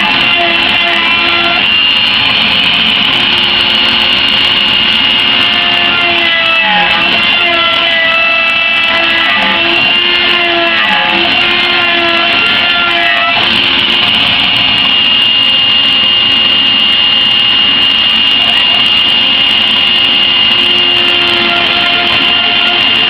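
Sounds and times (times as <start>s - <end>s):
low machine tones: 0.0s - 23.0s
router spindle whining: 0.0s - 23.0s.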